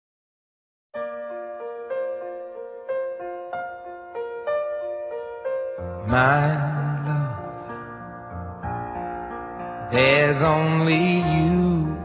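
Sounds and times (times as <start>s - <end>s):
slow piano ballad: 1.0s - 12.0s.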